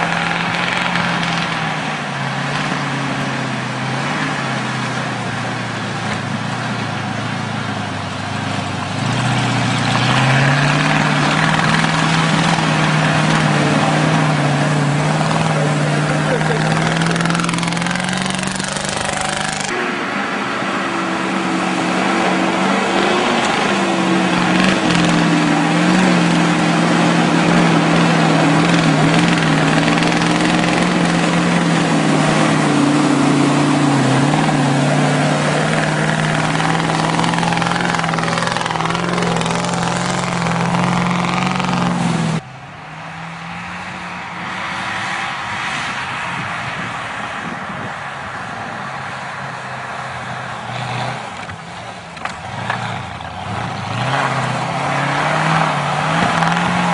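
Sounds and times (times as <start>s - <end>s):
truck engine under load: 0.0s - 56.9s.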